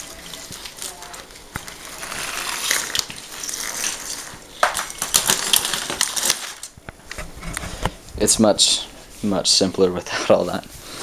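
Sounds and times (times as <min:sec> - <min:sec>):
wires rustling: 0:00.0 - 0:11.0.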